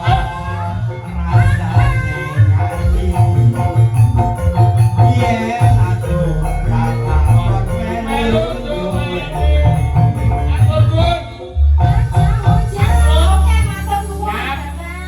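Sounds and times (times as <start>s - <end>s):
live band music: 0.0s - 15.0s
pulsing bass beat: 0.0s - 15.0s.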